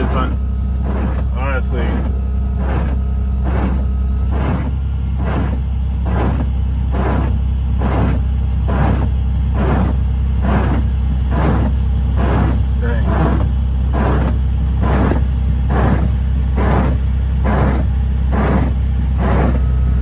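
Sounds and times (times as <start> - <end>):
engine and road drone in cabin: 0.0 - 20.0.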